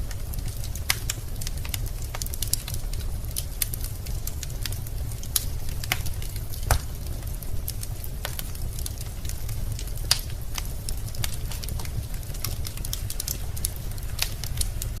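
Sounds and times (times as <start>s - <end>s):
wood fire crackling in a fireplace: 0.0s - 15.0s.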